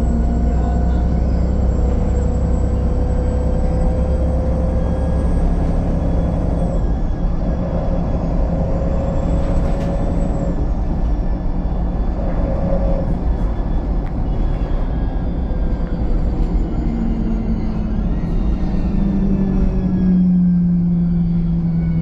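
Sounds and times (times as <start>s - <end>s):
bus engine rumble: 0.0s - 22.0s
bus whine: 0.0s - 22.0s.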